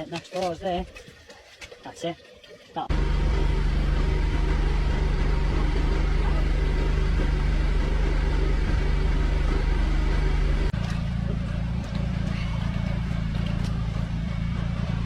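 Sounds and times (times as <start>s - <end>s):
engine running with low drone: 2.9s - 15.0s.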